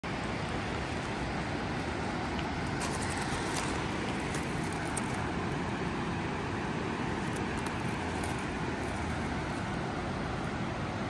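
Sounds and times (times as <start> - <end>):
river rapids roaring: 0.0 - 11.0.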